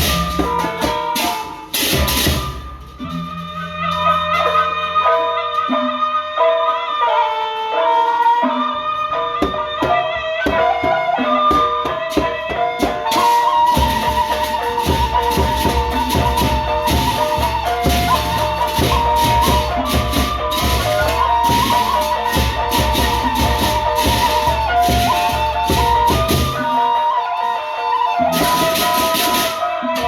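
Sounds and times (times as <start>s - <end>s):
big drums: 0.0s - 5.0s, 9.0s - 27.4s, 28.1s - 30.0s
clashing cymbals: 0.0s - 5.7s, 8.9s - 27.4s, 28.2s - 30.0s
held melody line: 0.0s - 30.0s.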